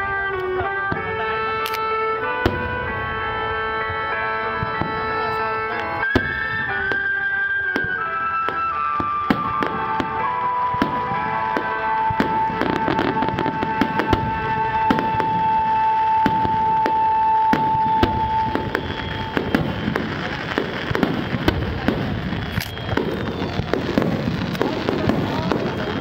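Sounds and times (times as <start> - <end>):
fireworks bangs and crackles: 0.0 - 26.0
music with long held note: 0.0 - 26.0.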